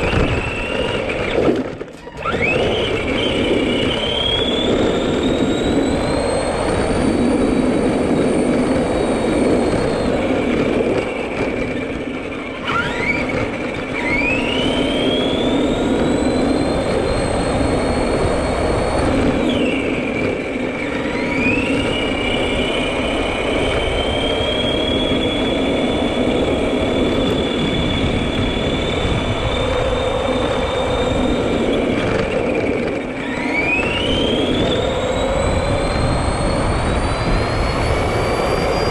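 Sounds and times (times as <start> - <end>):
electric motor whining: 0.0 - 38.9.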